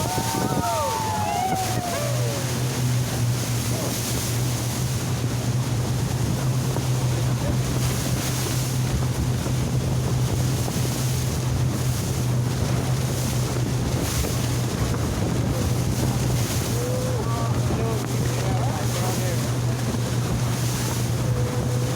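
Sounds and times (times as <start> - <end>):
boat engine humming: 0.0 - 21.9
rushing water: 0.0 - 21.9
wind buffeting microphone: 0.0 - 21.9.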